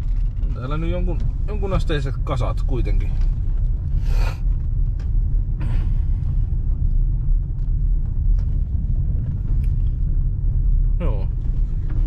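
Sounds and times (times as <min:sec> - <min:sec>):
car rumbling on gravel road: 0:00.0 - 0:12.0.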